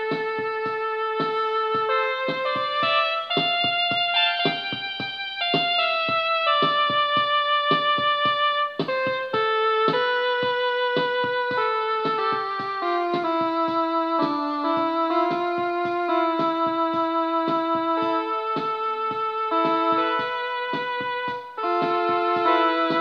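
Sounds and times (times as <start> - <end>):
electronic keyboard slow melody: 0.0 - 23.0
steady accompaniment beat: 0.0 - 23.0.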